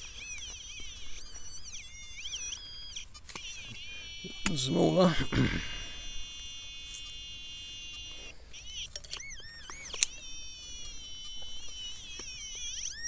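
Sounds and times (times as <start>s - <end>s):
metal detector pinpointer tone: 0.0s - 13.0s.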